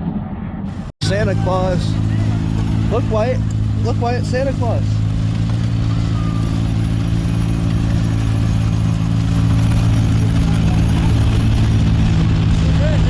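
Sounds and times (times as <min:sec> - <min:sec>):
engine humming: 0:00.7 - 0:13.0.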